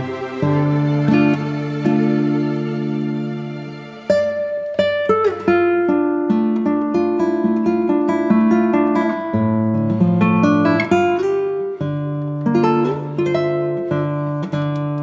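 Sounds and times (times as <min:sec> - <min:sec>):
acoustic guitar melody: 0:00.0 - 0:15.0.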